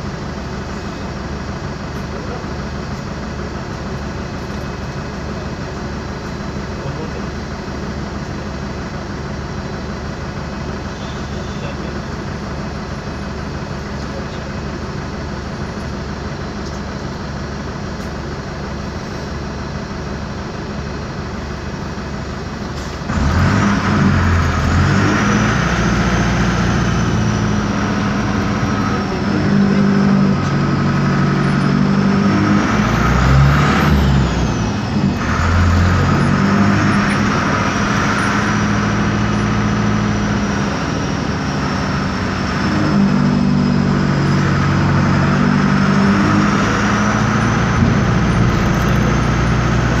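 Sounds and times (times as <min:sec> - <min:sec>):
bus diesel engine: 0:00.0 - 0:50.0.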